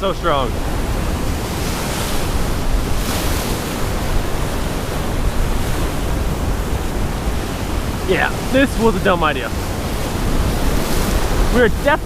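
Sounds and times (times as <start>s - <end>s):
waves breaking: 0.0s - 12.0s
wind rumbling on microphone: 0.0s - 12.0s.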